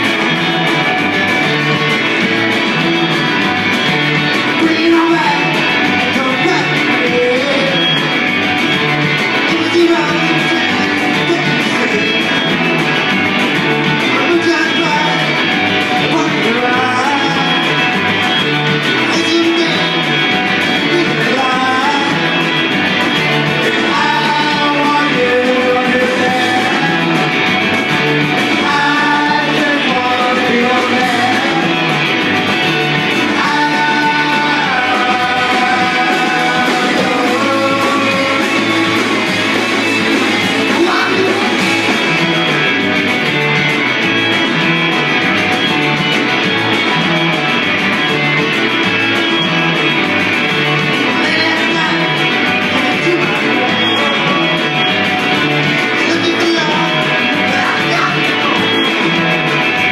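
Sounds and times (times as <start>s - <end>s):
person singing: 0.0s - 45.6s, 50.4s - 59.9s
live rock band playing: 0.0s - 59.9s.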